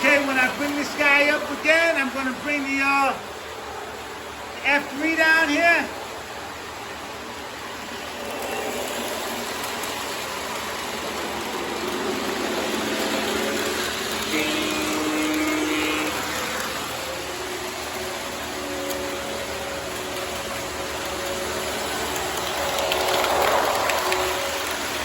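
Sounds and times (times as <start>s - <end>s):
model trains rolling rumble: 0.0s - 25.0s.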